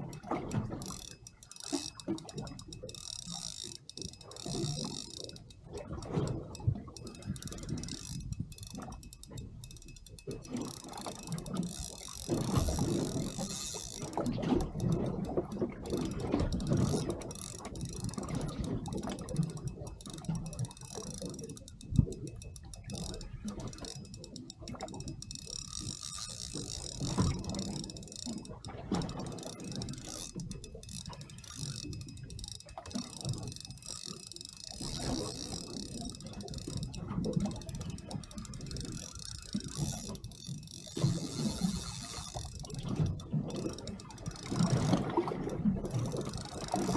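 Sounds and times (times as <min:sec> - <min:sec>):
fishing reel ratchet clicking: 0:00.0 - 0:46.9.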